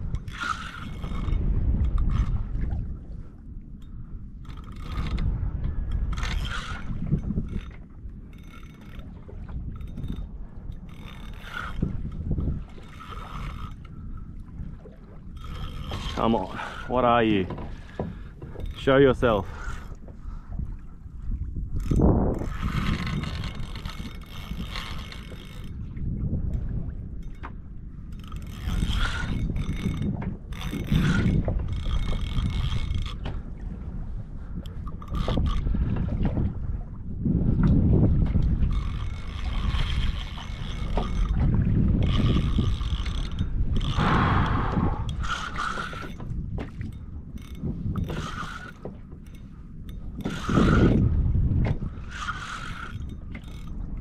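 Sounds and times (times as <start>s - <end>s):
fishing reel whirring: 0.0s - 2.9s, 3.7s - 14.4s, 15.2s - 20.0s, 21.7s - 33.5s, 34.5s - 35.9s, 37.6s - 54.0s
wind on microphone: 0.0s - 54.0s.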